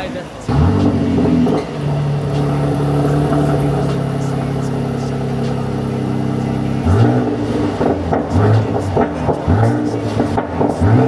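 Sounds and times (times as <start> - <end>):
car engine exhaust drone: 0.3 - 11.0.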